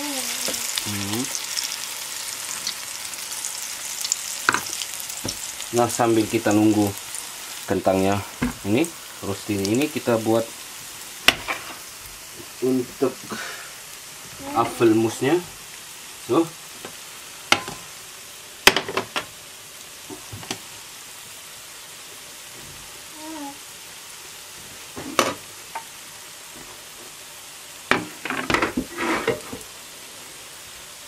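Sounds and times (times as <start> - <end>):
pancakes sizzling in oil: 0.0 - 31.0.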